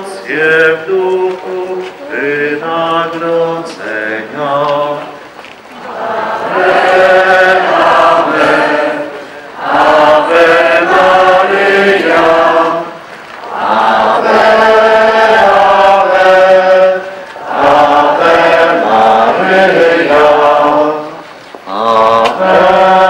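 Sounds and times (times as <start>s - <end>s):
crowd singing a hymn: 0.0s - 23.0s.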